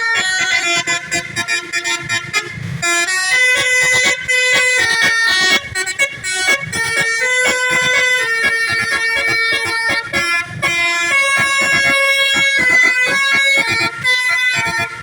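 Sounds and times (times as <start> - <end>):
musical air horn playing a tune: 0.0 - 15.0.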